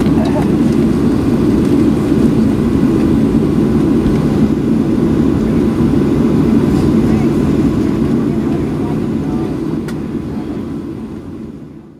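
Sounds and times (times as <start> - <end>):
aircraft cabin engine noise: 0.0 - 11.9.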